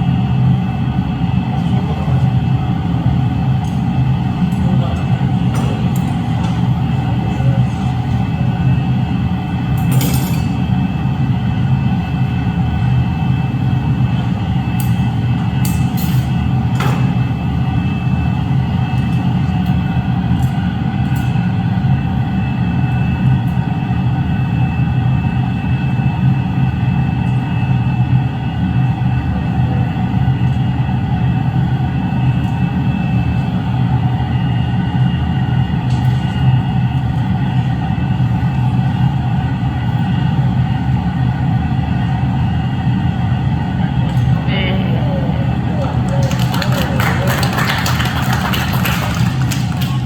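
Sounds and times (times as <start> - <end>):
glass furnace rumble and hum: 0.0 - 50.0.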